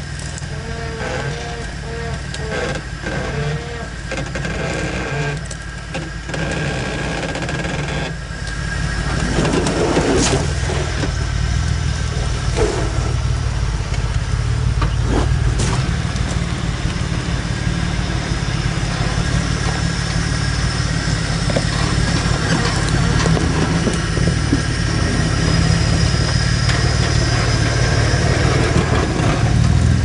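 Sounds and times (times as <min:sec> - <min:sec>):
buggy engine running low: 0:00.0 - 0:30.0.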